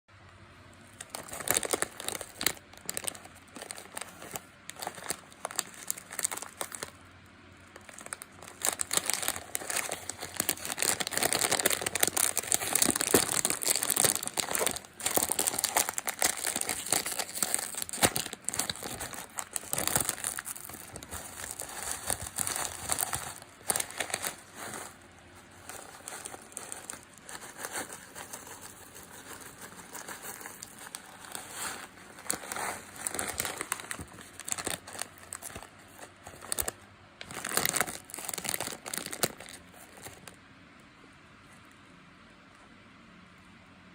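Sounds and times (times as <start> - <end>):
plastic packaging crinkling: 0.6 - 40.4.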